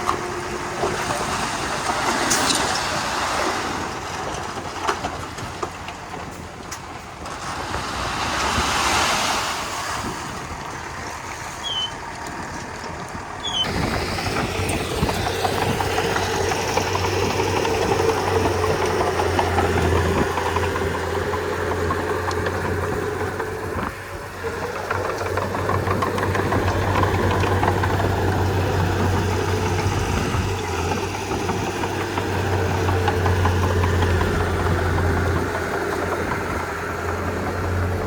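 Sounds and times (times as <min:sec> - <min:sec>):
bulldozer engine and tracks: 0:00.0 - 0:38.0
engine running with low hum: 0:00.0 - 0:38.0.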